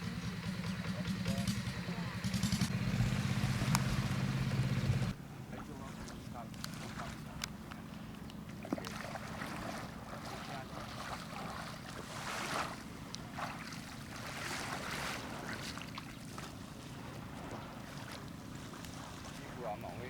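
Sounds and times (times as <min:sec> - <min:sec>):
boat engine running: 0:00.0 - 0:20.0
water splashing against hull: 0:02.4 - 0:20.0.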